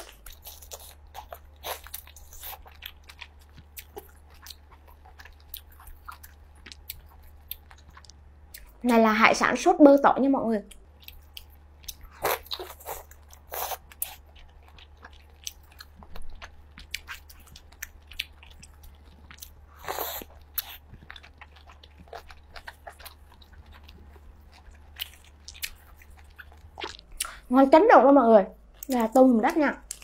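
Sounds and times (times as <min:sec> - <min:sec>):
person chewing food: 0:00.0 - 0:08.9, 0:10.7 - 0:27.5
faint low hum: 0:00.0 - 0:30.0.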